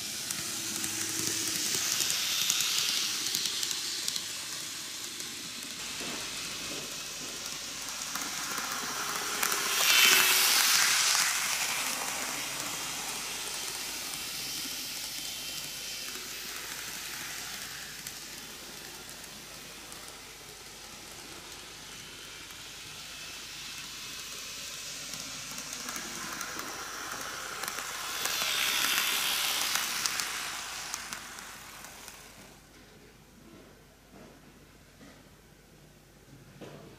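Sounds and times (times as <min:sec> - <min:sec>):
model trains rolling hiss: 0:00.0 - 0:32.7.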